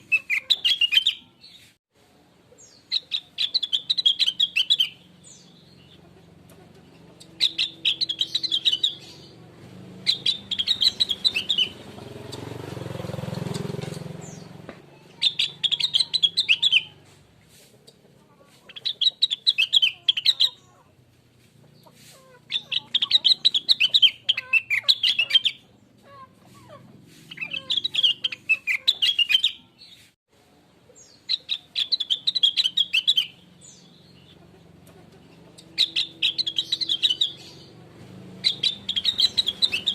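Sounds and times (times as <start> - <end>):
bird singing chattering phrases: 0.0 - 1.7, 2.4 - 30.2, 30.8 - 39.9.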